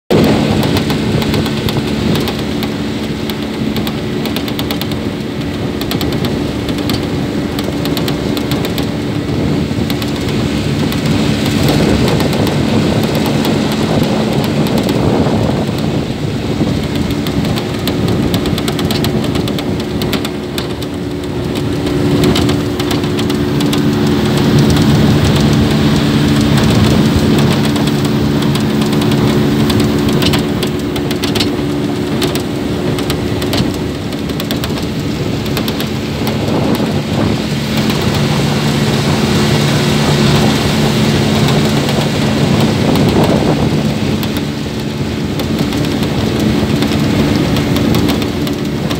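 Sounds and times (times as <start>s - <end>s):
boat motor running: 0.0s - 48.9s
water splashing along hull: 0.1s - 48.9s
wind buffeting microphone: 0.1s - 48.9s.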